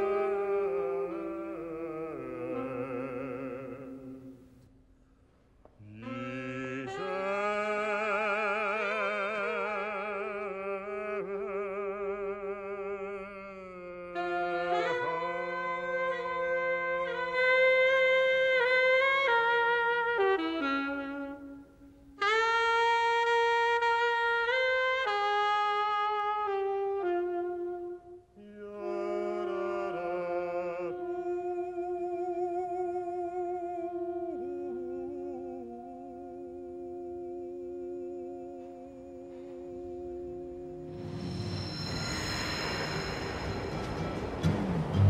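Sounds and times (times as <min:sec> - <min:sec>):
alto saxophone playing: 0:00.0 - 0:04.3, 0:05.9 - 0:10.6, 0:14.1 - 0:41.6.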